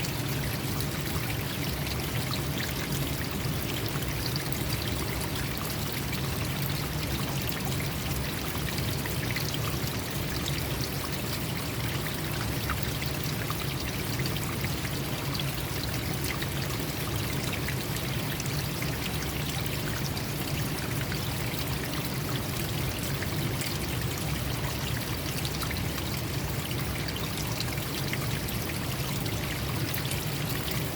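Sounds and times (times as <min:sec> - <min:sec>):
stream flowing and splashing: 0:00.0 - 0:30.9.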